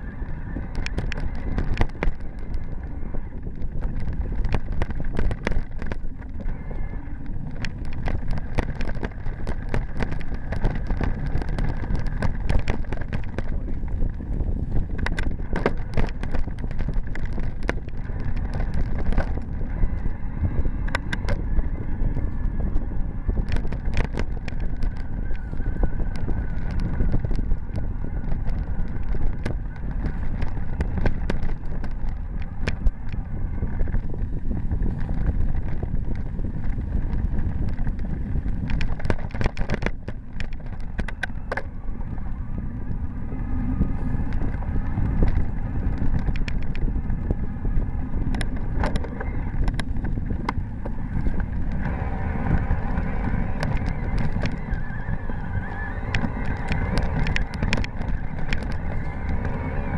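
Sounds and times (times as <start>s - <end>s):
bike rattles and knocks: 0.0s - 59.9s
bike tires rolling on gravel: 0.0s - 59.9s
wind rumbling on microphone: 0.0s - 59.9s.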